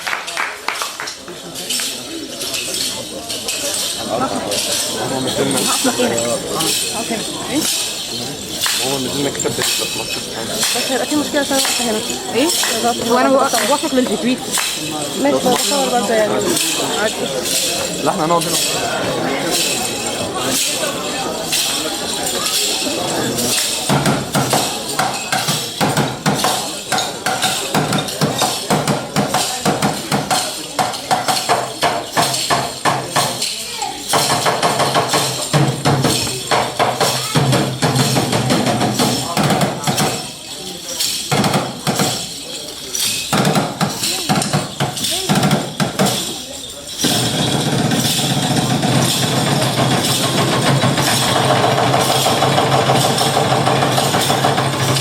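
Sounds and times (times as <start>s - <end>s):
rhythmic percussion: 0.0s - 55.0s.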